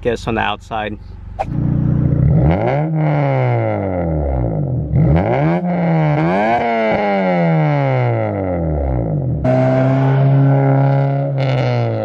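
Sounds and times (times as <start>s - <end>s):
car engine revving: 1.0s - 12.0s.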